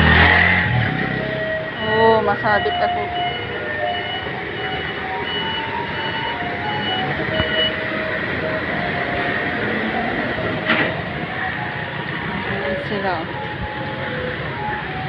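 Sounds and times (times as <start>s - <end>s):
electronic melody over loudspeaker: 0.0s - 15.0s
truck and street noise: 0.0s - 15.0s.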